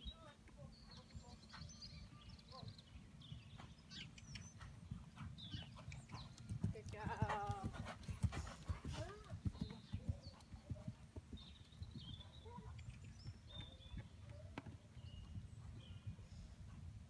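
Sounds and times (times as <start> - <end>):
horse hoofbeats on sand: 0.7 - 16.8.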